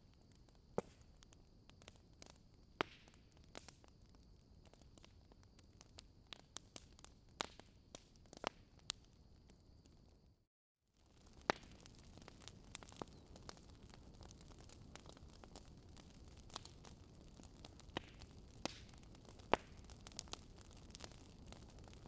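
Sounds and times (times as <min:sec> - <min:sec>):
wood fire crackling: 0:00.0 - 0:10.2, 0:10.9 - 0:22.0.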